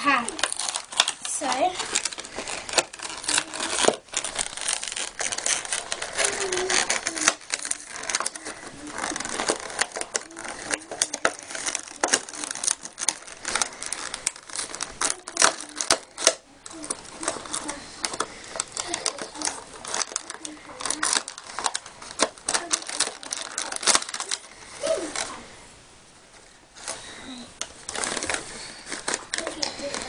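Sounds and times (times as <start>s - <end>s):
plastic packaging crinkling and tearing: 0.0s - 25.5s, 26.3s - 30.0s.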